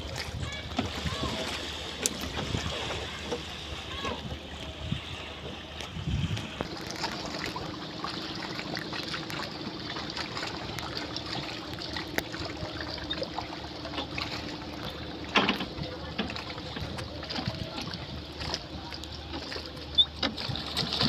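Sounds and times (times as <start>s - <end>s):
low steady hum: 0.0s - 21.0s
river water lapping and splashing: 0.0s - 21.0s.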